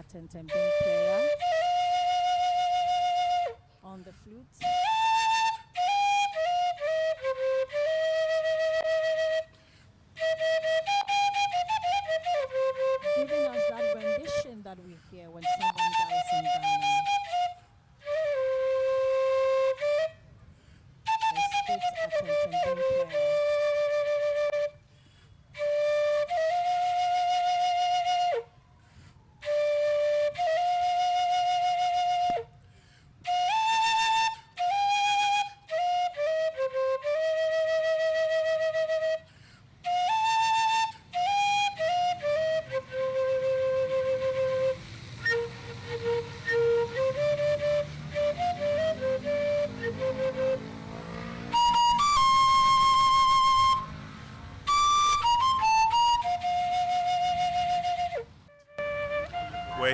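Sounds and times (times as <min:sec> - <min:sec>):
bamboo flute melody: 0:00.4 - 0:03.7, 0:04.5 - 0:14.5, 0:15.4 - 0:20.4, 0:21.0 - 0:32.6, 0:33.2 - 0:59.9.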